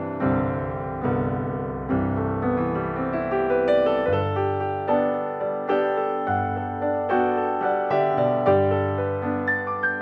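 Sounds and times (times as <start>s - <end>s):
calm piano music: 0.0s - 10.0s.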